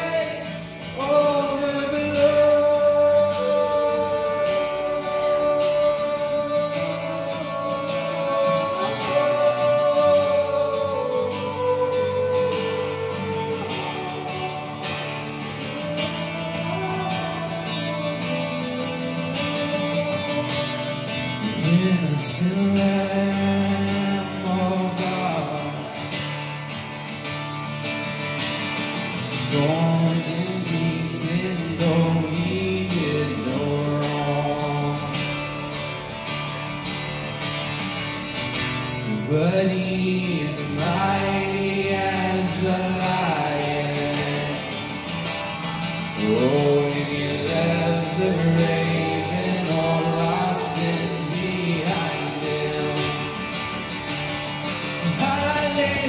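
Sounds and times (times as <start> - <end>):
person singing: 0.0 - 26.3, 29.2 - 35.8, 38.9 - 53.8, 54.8 - 56.0
acoustic guitar playing: 0.0 - 56.0.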